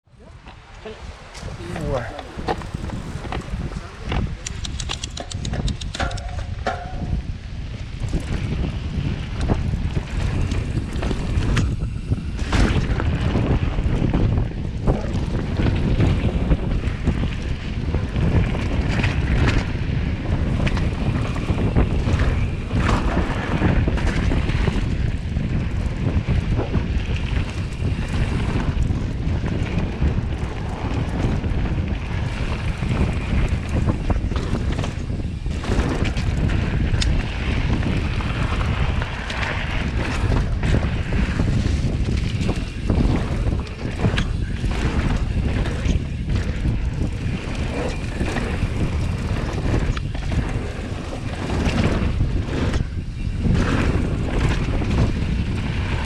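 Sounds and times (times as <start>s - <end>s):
wind buffeting microphone: 0.0s - 56.0s
bike knocking and rattling: 0.2s - 56.0s.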